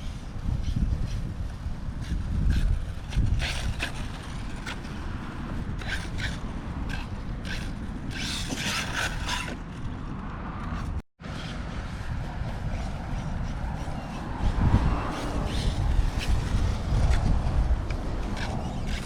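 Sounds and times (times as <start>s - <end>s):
scraping and rattling noises: 0.0s - 19.0s
wind rumbling on microphone: 0.0s - 19.0s.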